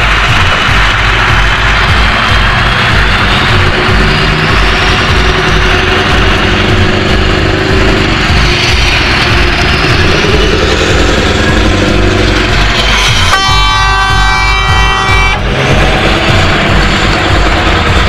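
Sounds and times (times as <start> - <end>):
truck diesel engine passing: 0.0 - 18.0.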